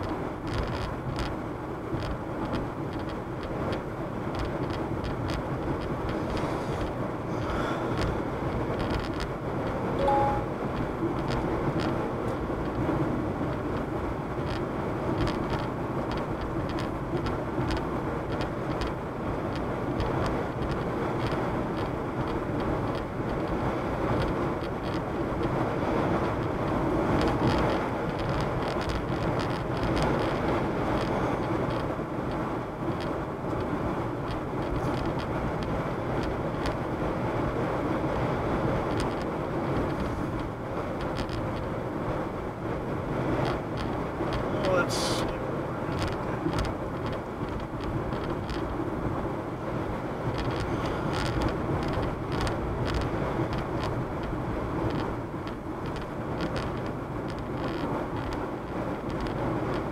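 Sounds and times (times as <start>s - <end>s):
car road noise from cabin: 0.0s - 59.9s.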